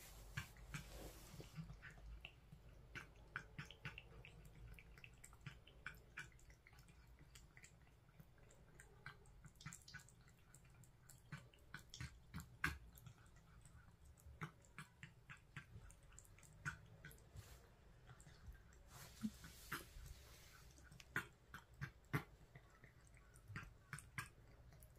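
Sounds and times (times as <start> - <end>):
cat chewing and licking food: 0.0 - 24.9.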